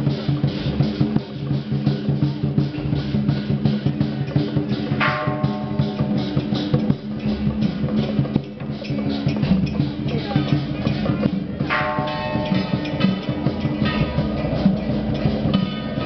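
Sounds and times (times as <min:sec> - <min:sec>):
drums beating rapidly: 0:00.0 - 0:16.0
cymbals crashing: 0:00.1 - 0:16.0.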